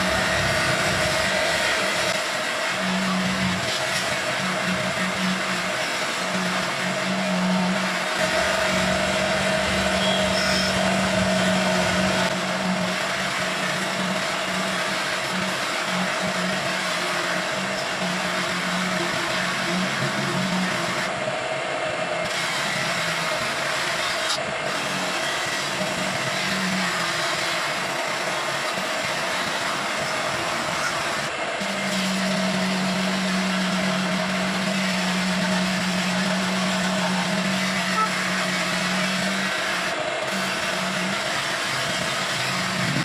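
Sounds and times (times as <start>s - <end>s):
polishing machine humming and hissing: 0.0s - 43.0s.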